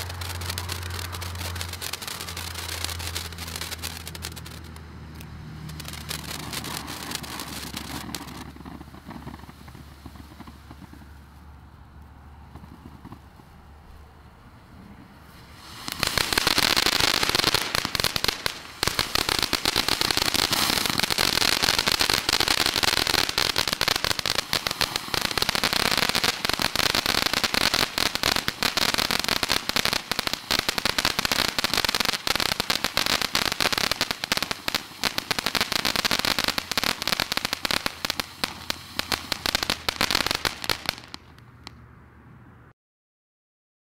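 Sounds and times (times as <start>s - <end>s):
firework fountain hissing and crackling: 0.0s - 41.8s.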